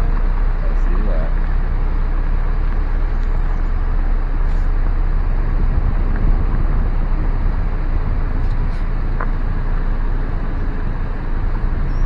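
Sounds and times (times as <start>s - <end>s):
car driving slowly: 0.0s - 12.0s.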